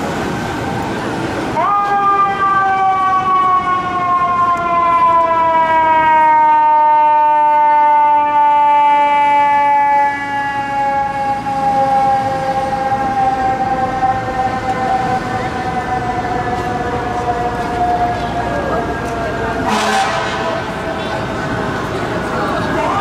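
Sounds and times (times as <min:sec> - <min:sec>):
street traffic: 0:00.0 - 0:23.0
mechanical siren wail: 0:01.6 - 0:20.8.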